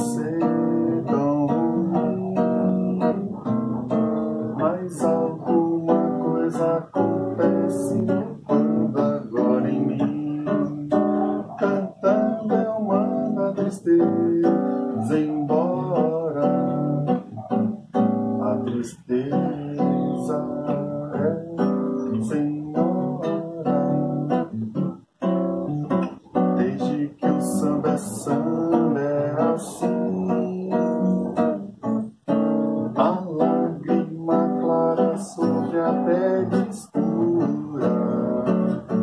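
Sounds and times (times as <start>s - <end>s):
acoustic guitar strummed: 0.0s - 39.0s
man singing: 0.0s - 39.0s.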